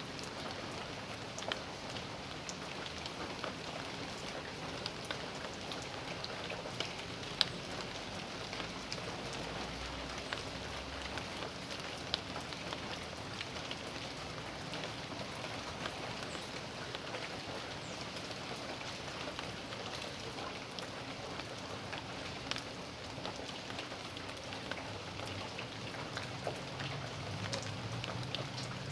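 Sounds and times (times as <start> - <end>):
rain patter: 0.0 - 28.9.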